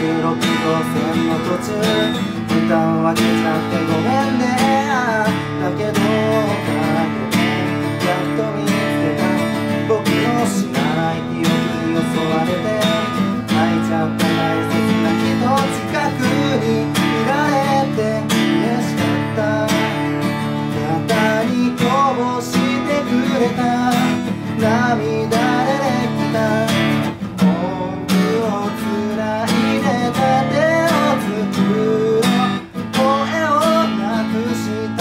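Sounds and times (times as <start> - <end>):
acoustic guitar strumming: 0.0 - 35.0
man singing: 0.0 - 35.0.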